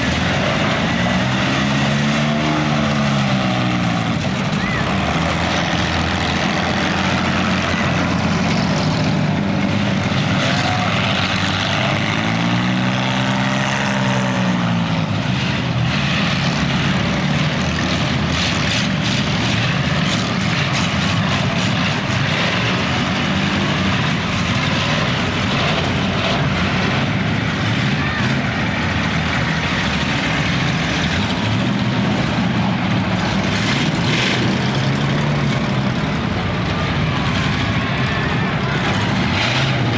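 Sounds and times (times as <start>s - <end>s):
demolition derby car engines racing: 0.0s - 39.9s.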